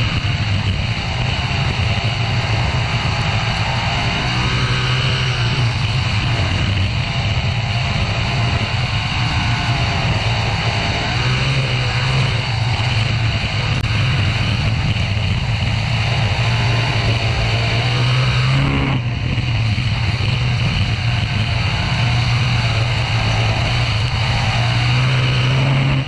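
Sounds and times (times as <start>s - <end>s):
race car engine running hard: 0.0s - 26.0s
wind rushing past microphone: 0.0s - 26.0s.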